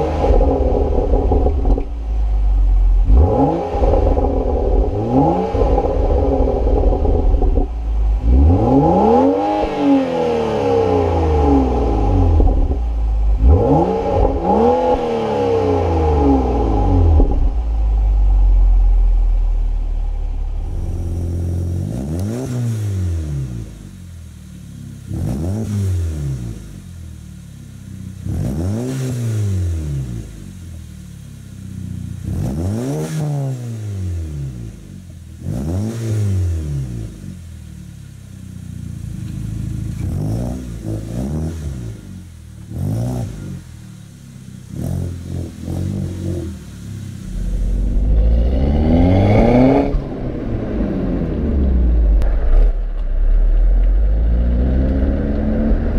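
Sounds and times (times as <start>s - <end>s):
car engine running: 0.0s - 32.8s, 34.1s - 55.9s
car engine free-revving: 0.0s - 55.9s.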